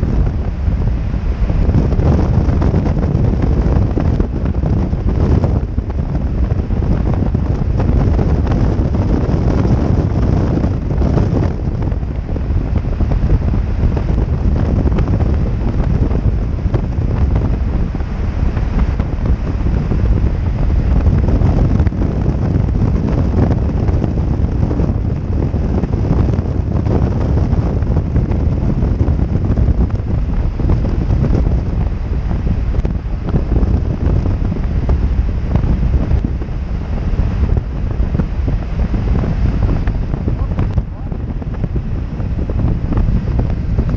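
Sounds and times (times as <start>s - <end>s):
motorcycle running and road noise: 0.0s - 43.9s
wind rushing over microphone: 0.0s - 43.9s.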